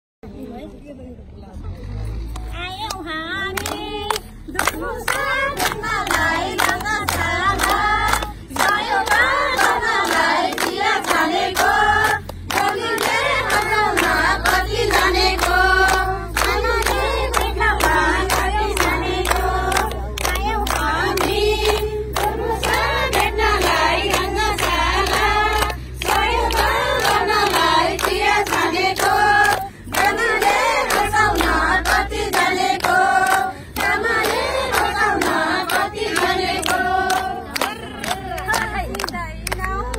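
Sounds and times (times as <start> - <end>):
hands clapping in time: 2.3 - 39.9
women singing in chorus: 2.5 - 39.9.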